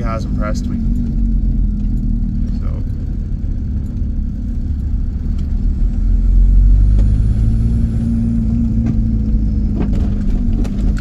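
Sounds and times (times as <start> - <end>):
diesel engine drone: 0.0 - 11.0
road rumble: 0.0 - 11.0.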